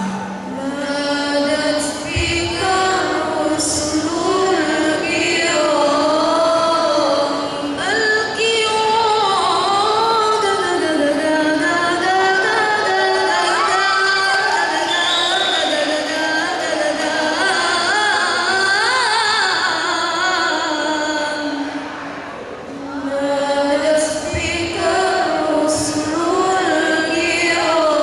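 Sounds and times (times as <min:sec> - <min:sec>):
girl singing into microphone: 0:00.0 - 0:21.9, 0:22.7 - 0:28.0.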